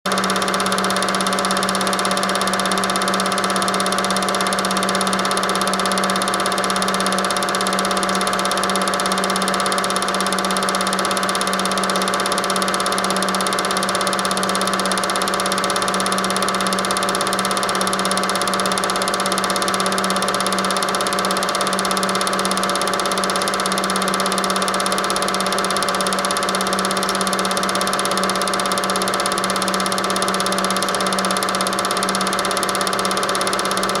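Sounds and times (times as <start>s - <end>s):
film projector whirring: 0.1s - 34.0s.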